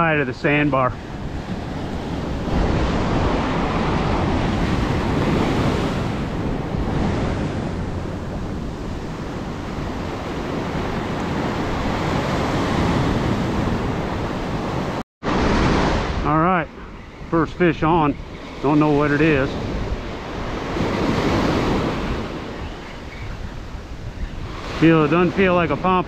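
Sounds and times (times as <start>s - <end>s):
ocean surf breaking: 0.0s - 26.0s
wind buffeting microphone: 0.8s - 26.0s.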